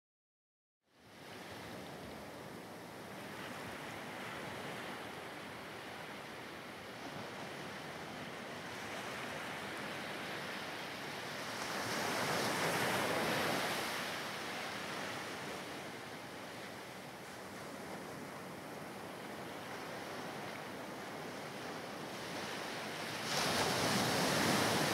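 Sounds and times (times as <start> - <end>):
surf washing onto beach: 3.3 - 24.9.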